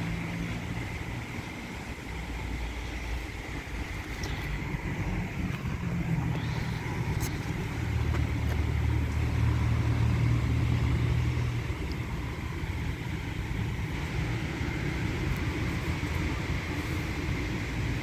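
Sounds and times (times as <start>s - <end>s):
faint high whine: 0.0s - 18.0s
low motor hum: 0.0s - 18.0s
rotating brushes on car: 0.0s - 18.0s.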